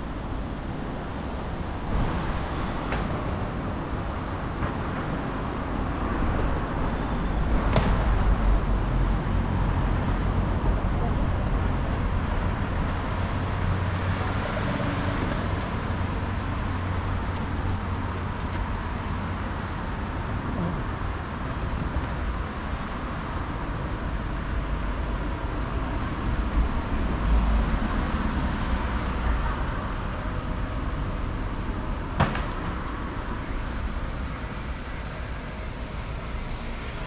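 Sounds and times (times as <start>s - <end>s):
city street traffic: 0.0s - 37.0s
vehicle rumble: 0.0s - 37.0s.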